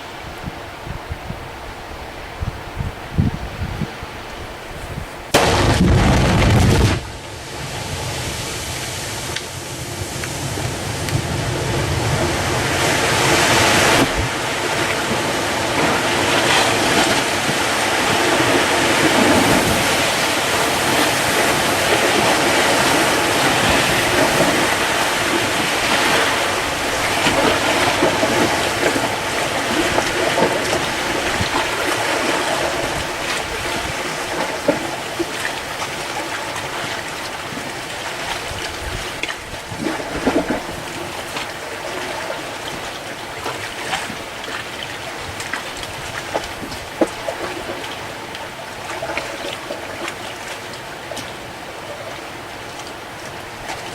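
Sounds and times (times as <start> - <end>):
rushing water: 0.0 - 53.9
wind: 0.0 - 53.9.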